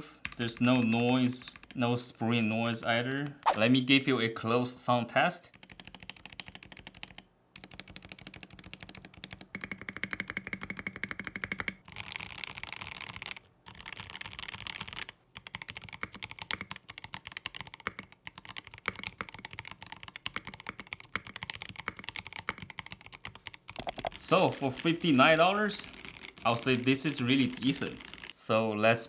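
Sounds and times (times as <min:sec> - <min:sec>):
mechanical keyboard typing: 0:00.2 - 0:01.8, 0:05.5 - 0:28.4.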